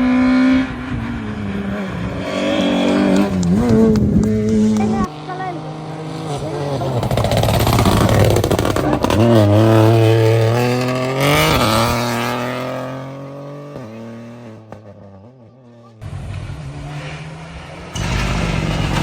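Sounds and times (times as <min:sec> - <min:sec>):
rally car engine at full throttle: 0:00.0 - 0:19.0.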